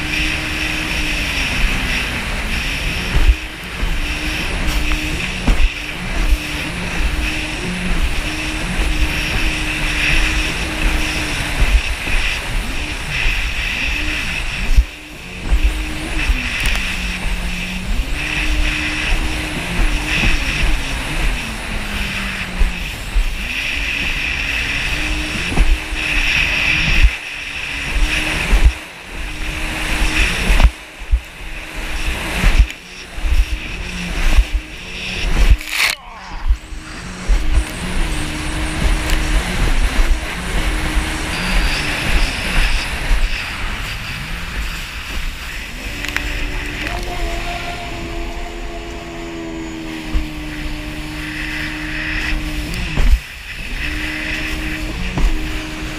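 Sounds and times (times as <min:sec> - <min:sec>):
jet ski engine running: 0:00.0 - 0:55.9
wind rumble on microphone: 0:00.0 - 0:55.9.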